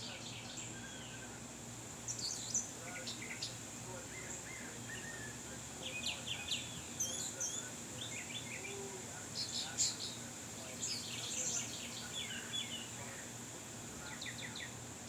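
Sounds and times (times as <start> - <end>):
birds chirping: 2.0 - 13.4, 14.0 - 14.8.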